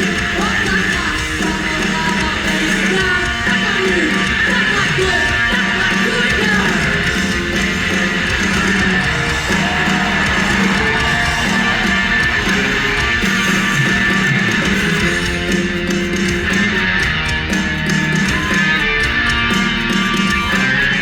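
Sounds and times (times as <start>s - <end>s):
live punk rock band: 0.0s - 21.0s.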